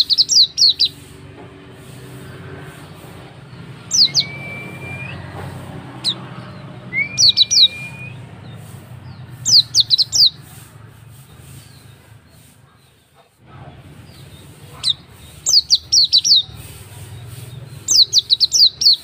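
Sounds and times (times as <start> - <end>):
bird chirping: 0.0 - 13.1, 13.8 - 19.0.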